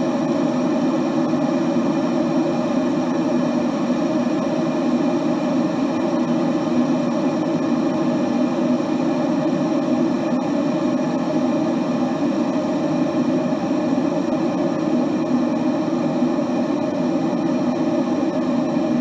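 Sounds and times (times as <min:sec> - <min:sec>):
water boiling in a kettle: 0:00.0 - 0:19.0.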